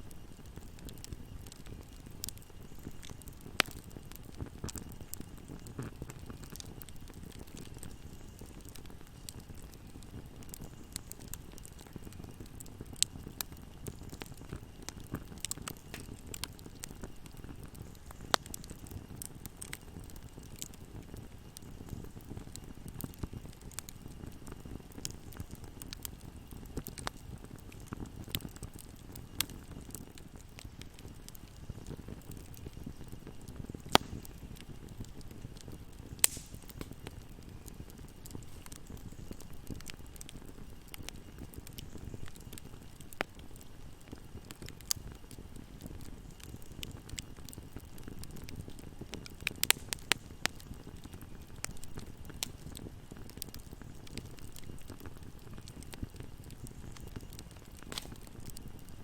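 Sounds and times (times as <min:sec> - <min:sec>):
fire crackling: 0:00.0 - 0:59.0
low rumble of flames: 0:00.0 - 0:59.0
loud fire pops: 0:00.3 - 0:59.0.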